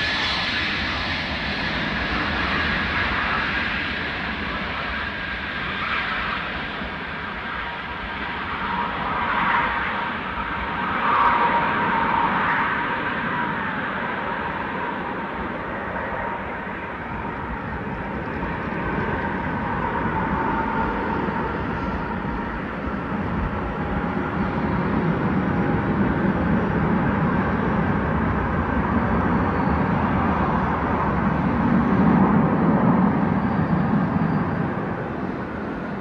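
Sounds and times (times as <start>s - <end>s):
jet engine rush with whine: 0.0s - 36.0s.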